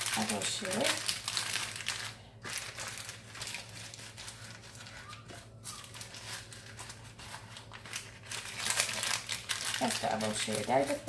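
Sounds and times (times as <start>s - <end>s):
baking paper crinkling: 0.0s - 11.0s.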